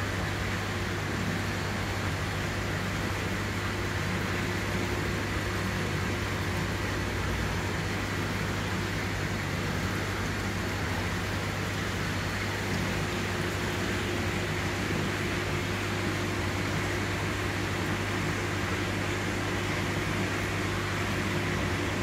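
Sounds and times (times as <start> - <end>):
aquarium pumps humming: 0.0 - 22.0.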